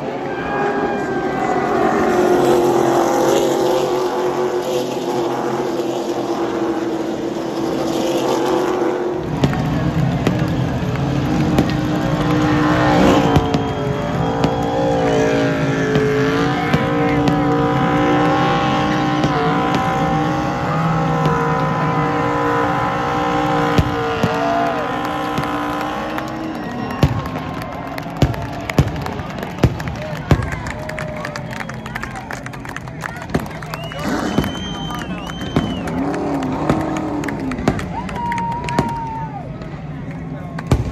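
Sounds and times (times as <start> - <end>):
car engine revving in burnout: 0.0 - 40.9
race car engines running: 0.0 - 40.9.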